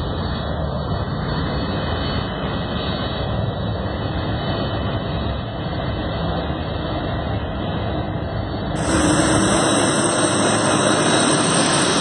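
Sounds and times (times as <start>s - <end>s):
jet engines of airliner: 0.0s - 12.0s.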